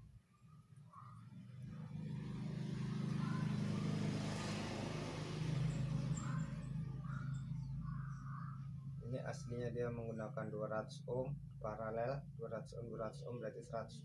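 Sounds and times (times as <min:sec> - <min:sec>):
vehicle passing: 0:01.2 - 0:12.6
vehicle engine humming: 0:01.3 - 0:14.0.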